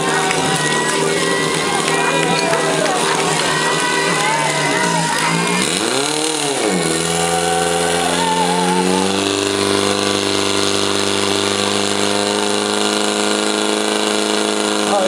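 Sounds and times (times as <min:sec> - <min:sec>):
pump engine running at high revs: 0:00.0 - 0:15.0.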